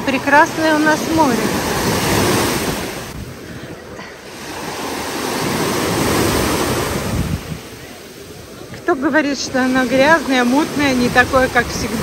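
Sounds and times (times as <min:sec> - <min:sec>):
waves washing up a sandy shore: 0:00.0 - 0:12.0.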